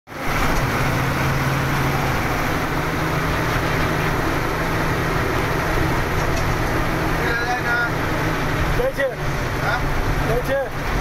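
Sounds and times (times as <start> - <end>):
heavy vehicle engine drone: 0.1 - 11.0
road noise: 0.1 - 11.0.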